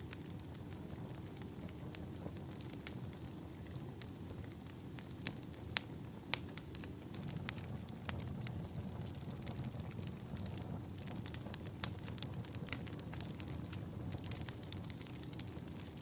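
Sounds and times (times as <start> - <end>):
fire popping: 0.0 - 16.0
flames rushing: 1.7 - 16.0.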